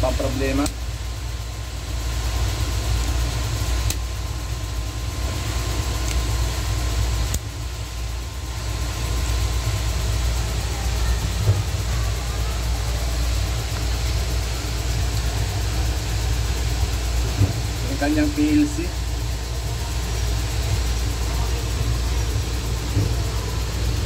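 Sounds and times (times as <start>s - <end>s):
faint steady whine: 0.0s - 24.0s
machinery rumbling: 2.0s - 24.0s.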